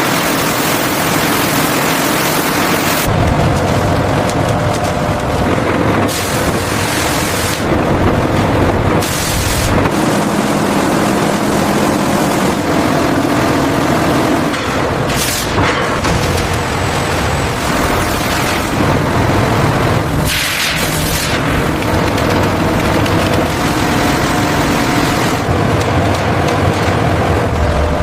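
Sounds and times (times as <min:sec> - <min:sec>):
factory machinery noise: 0:00.0 - 0:28.0.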